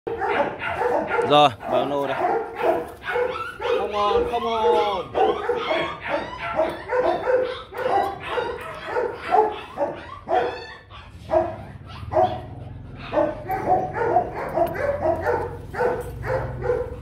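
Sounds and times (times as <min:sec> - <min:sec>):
dog barking: 0:00.1 - 0:17.0.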